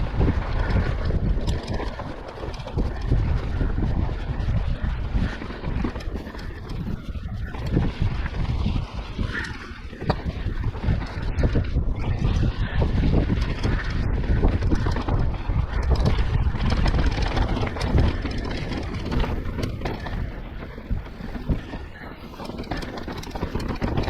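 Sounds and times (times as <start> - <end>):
bike clicks and rattles: 0.0 - 24.0
tyres rumbling over dirt: 0.0 - 24.0
wind buffeting microphone: 0.0 - 24.0.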